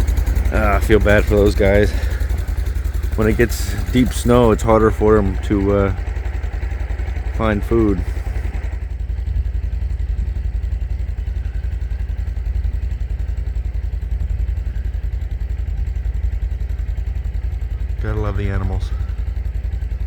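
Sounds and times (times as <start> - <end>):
snowmobile engine idling: 0.0 - 20.0.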